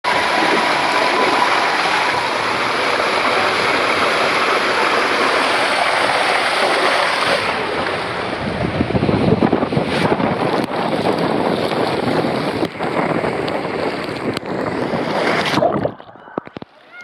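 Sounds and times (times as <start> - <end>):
water rushing down a waterslide: 0.0 - 17.0.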